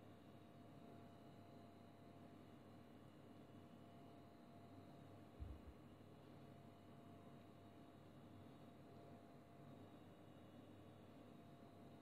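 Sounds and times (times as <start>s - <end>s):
thin constant hum: 0.0s - 12.0s.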